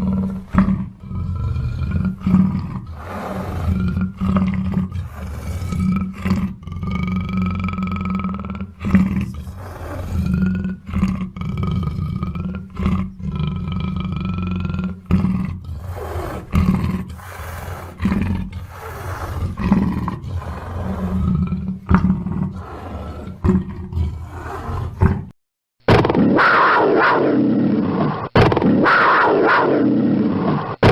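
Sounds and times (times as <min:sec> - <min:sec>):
panther growling and roaring: 0:00.0 - 0:25.3, 0:25.9 - 0:30.9.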